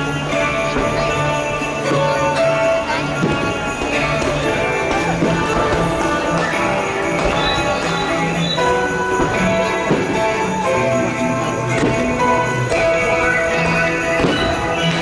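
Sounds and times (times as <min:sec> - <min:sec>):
christmas show music: 0:00.0 - 0:15.0
sleigh bells ringing: 0:00.0 - 0:15.0.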